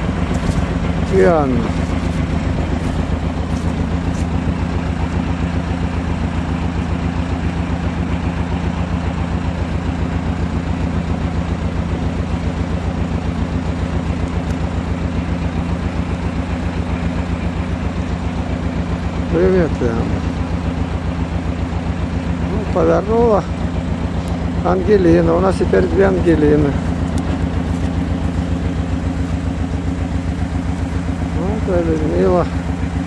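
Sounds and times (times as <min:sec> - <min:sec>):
engine running at low revs: 0:00.0 - 0:33.0.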